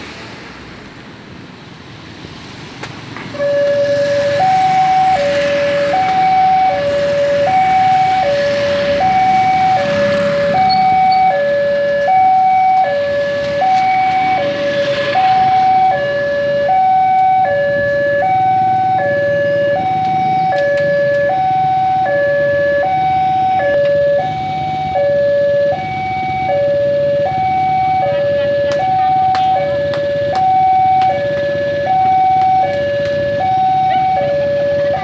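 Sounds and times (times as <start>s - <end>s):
low hum of road traffic: 0.0s - 35.0s
level crossing two-tone alarm: 3.4s - 35.0s.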